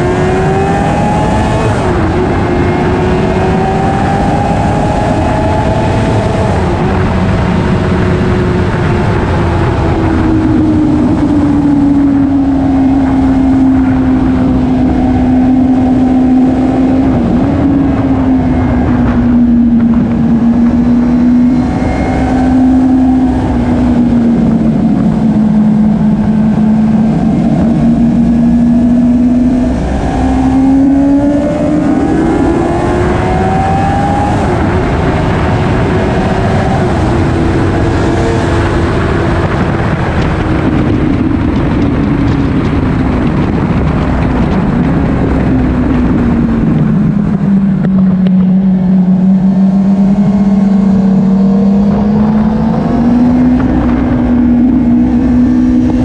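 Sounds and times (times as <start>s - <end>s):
motorcycle engine at high revs: 0.0s - 56.0s
wind rush: 0.0s - 56.0s.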